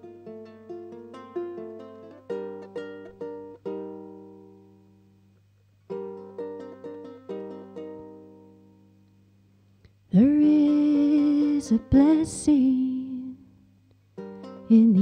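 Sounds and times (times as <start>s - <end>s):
ukulele picking and strumming: 0.0s - 5.1s, 5.9s - 9.2s, 10.2s - 13.3s, 14.1s - 15.0s.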